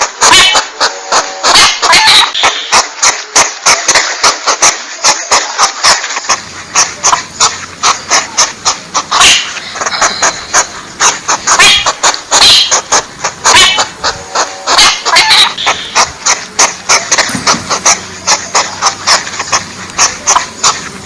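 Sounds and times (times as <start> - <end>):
hiss: 0.0 - 21.0.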